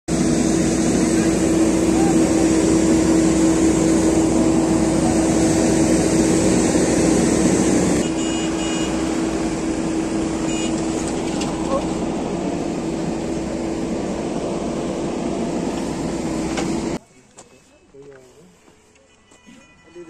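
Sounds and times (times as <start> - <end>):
diesel engine humming: 0.1 - 19.2.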